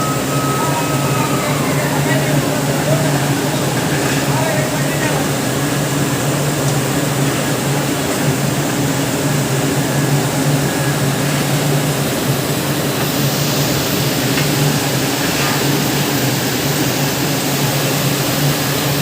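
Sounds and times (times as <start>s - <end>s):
furnace roaring: 0.0s - 19.0s.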